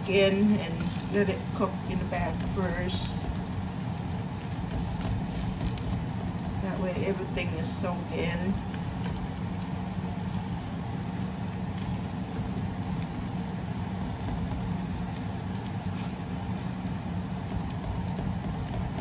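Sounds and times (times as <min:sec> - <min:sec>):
food sizzling in a pan: 0:00.0 - 0:19.0
low hum of gas burner: 0:00.0 - 0:19.0.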